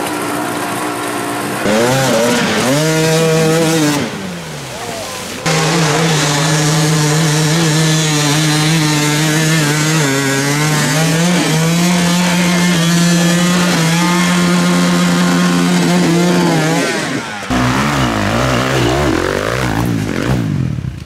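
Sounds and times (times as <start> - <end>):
dirt bike engine revving high: 0.0 - 21.0.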